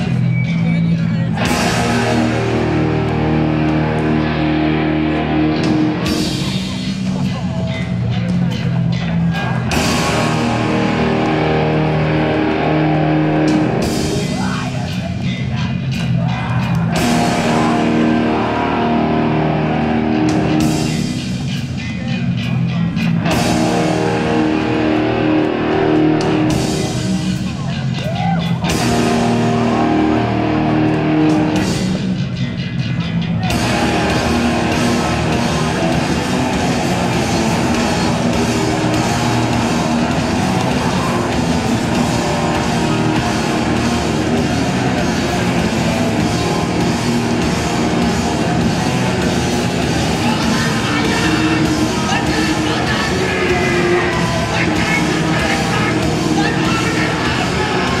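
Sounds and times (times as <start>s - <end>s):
distorted guitar and bass riff: 0.0s - 58.0s
drums and cymbals: 0.0s - 58.0s
punk band playing live: 0.0s - 58.0s.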